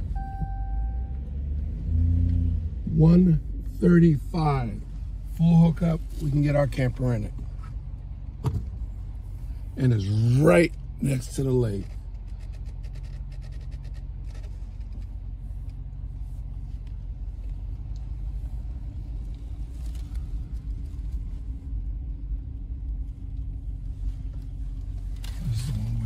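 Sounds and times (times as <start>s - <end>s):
truck engine and tyres rumbling: 0.0s - 26.0s.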